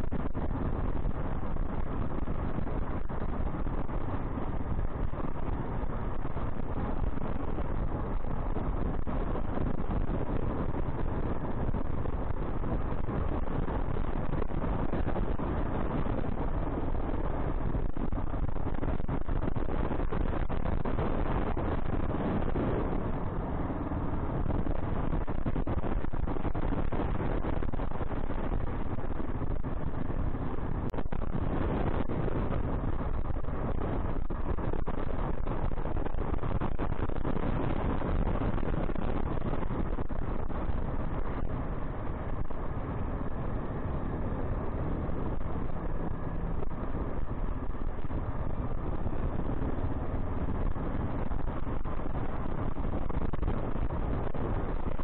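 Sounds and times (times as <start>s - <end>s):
wind rushing over the microphone: 0.0s - 55.0s.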